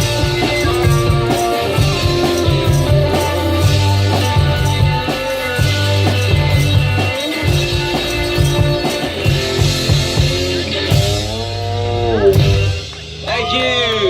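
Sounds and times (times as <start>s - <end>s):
drum beat: 0.0s - 11.8s
guitar and bass lines: 0.0s - 14.0s.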